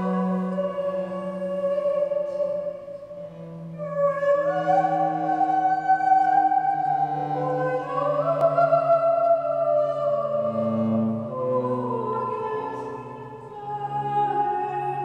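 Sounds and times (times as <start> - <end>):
bowed low string notes: 0.0 - 15.0.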